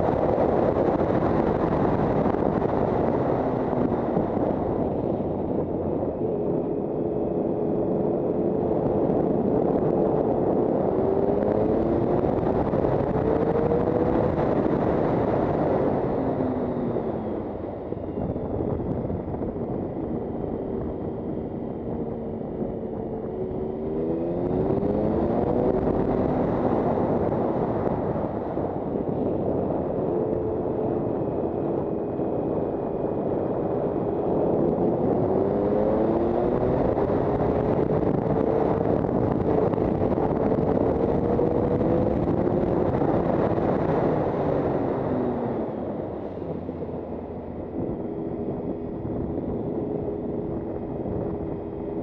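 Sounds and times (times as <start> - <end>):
wind rush: 0.0 - 52.0.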